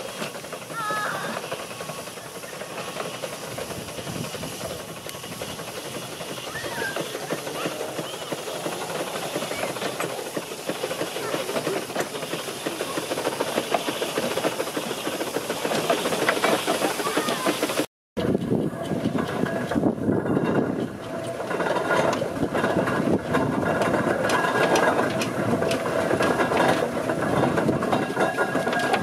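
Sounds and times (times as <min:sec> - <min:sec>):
steam hissing: 0:00.0 - 0:17.9, 0:20.8 - 0:29.0
steam engine clatter: 0:00.0 - 0:29.0.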